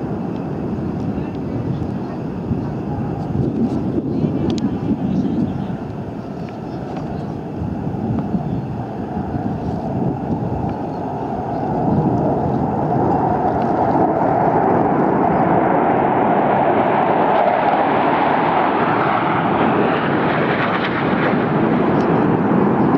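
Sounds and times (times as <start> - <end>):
fighter jet engine roar: 0.0 - 22.9.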